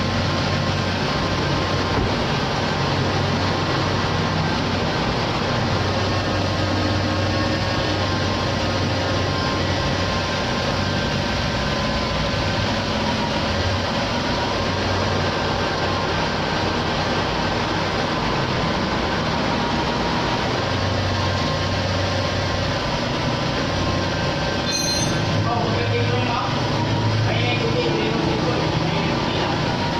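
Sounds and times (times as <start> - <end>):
car engine running: 0.0 - 24.6.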